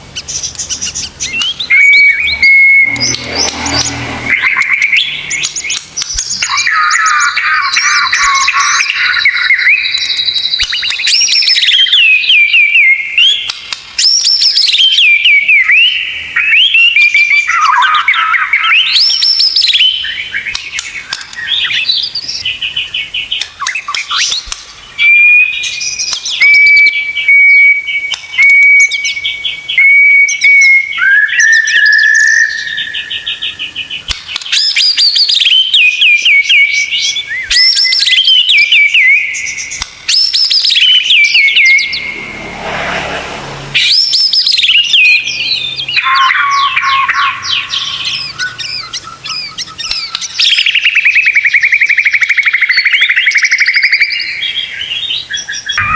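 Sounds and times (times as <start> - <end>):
songbird singing trills and whistles: 0.0 - 42.3, 43.8 - 55.9.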